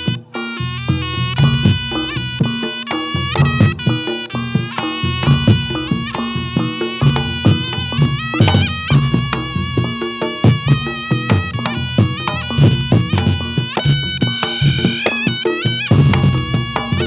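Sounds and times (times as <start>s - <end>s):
drum beat: 0.0s - 17.0s
shrill double-reed trumpet melody: 0.0s - 17.0s.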